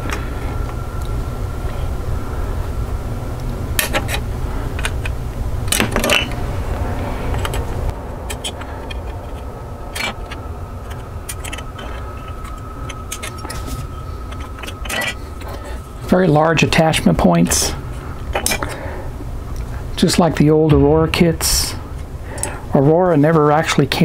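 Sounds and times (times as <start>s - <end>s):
low hum: 0.0s - 23.5s.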